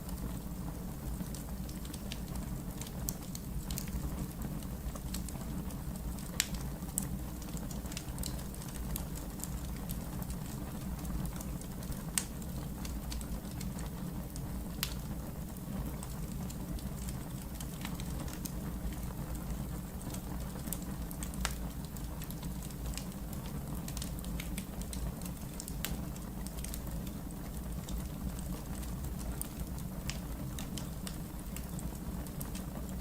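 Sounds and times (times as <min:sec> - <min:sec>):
fire crackles and pops: 0:00.0 - 0:33.0
fireplace fire rumbling: 0:00.0 - 0:33.0.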